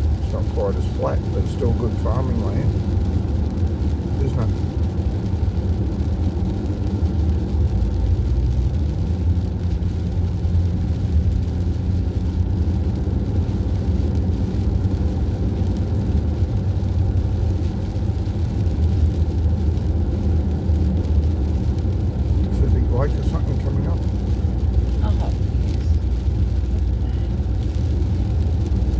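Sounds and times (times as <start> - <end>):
vehicle engine and road noise: 0.0 - 28.9.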